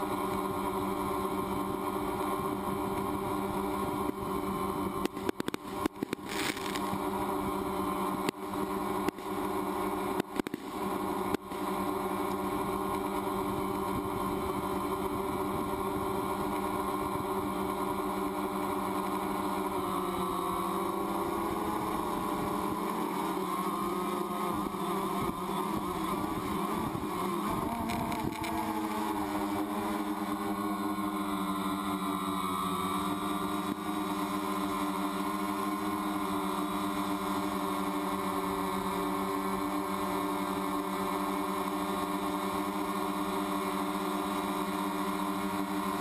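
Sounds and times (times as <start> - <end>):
drone propellers whining: 0.0 - 46.0.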